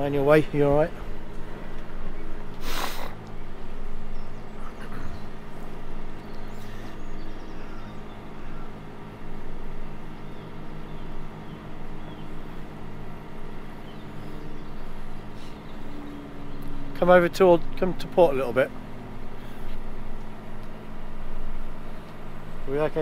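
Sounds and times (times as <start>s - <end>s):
boat engine running steadily: 0.0s - 23.0s.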